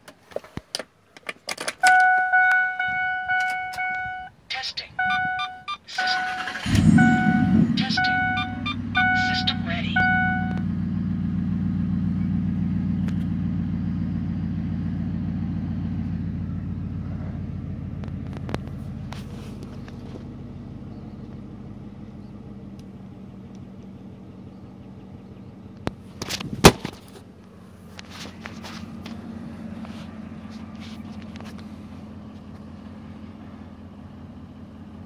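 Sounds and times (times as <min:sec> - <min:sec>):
vehicle engine running: 0:01.9 - 0:35.0.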